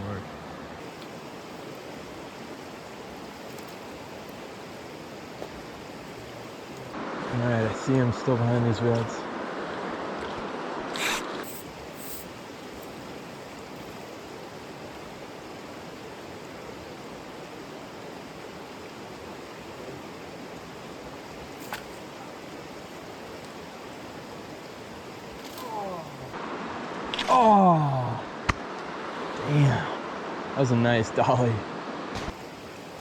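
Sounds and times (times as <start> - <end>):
stream water flowing: 0.0 - 33.0.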